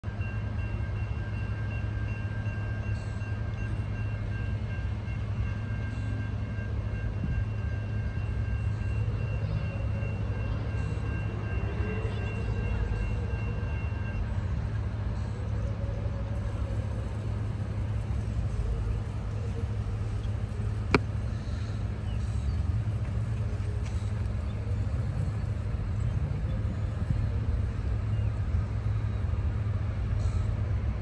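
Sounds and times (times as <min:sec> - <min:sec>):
freight train rumbling: 0:00.0 - 0:31.0.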